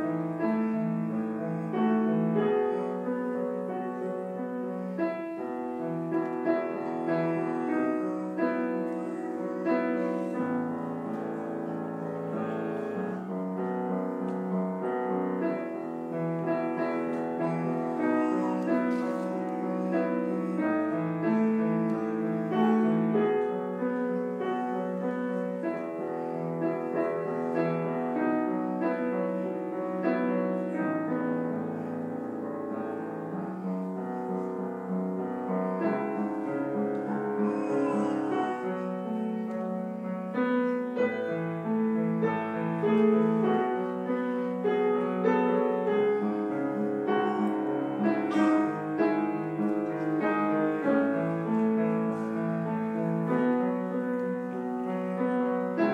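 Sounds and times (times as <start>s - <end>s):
grand piano playing: 0.0s - 55.9s.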